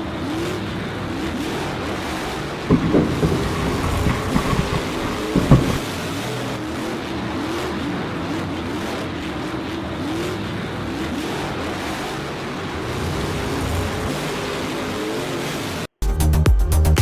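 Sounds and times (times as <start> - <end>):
racing car engine revving: 0.0 - 15.9.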